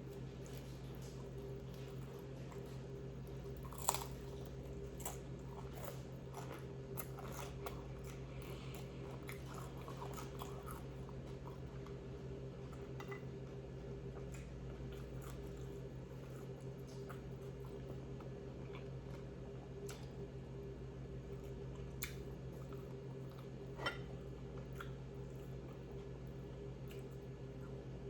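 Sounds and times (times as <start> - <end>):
chewing crunchy food: 0.0 - 28.0.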